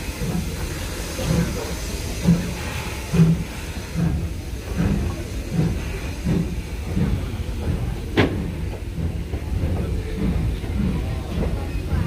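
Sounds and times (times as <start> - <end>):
steady steam hiss: 0.0 - 12.0
steam locomotive exhaust beats: 0.0 - 12.0
train clank: 0.0 - 12.0.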